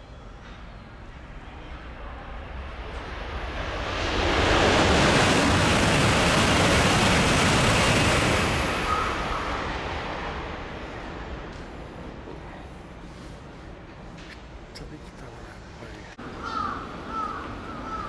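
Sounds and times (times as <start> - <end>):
high-speed train rushing past: 0.0 - 18.0.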